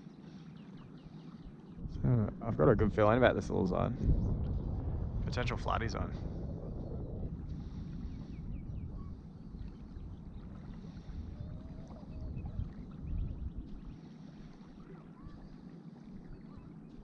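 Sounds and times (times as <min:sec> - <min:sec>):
wind buffeting microphone: 0:00.8 - 0:17.0.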